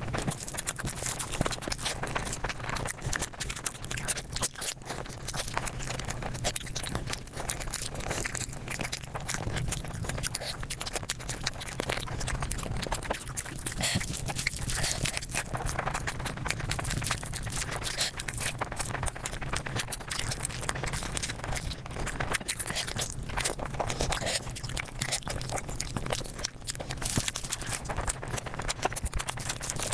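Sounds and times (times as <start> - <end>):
sped-up chewing and crunching: 0.0 - 29.9
steady low hum: 0.0 - 29.9.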